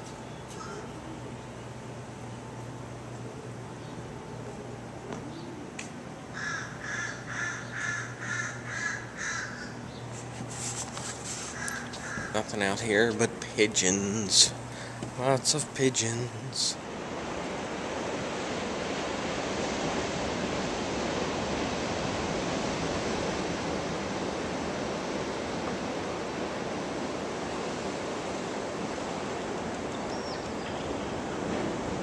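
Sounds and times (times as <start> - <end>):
ocean surf washing: 6.0 - 32.0.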